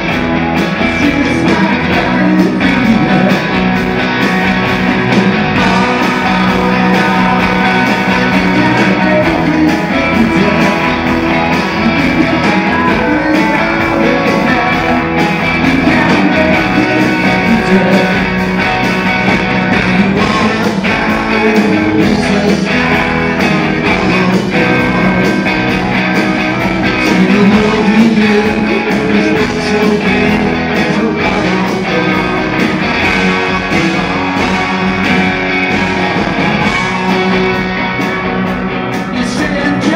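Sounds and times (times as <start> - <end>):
live rock band playing loudly: 0.0 - 39.9.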